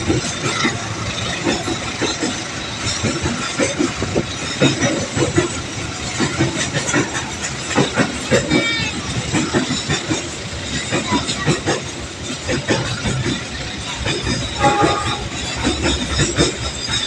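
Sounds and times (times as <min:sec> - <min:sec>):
freight train rolling past: 0:00.0 - 0:17.0
wheels clicking on rails: 0:00.0 - 0:17.0.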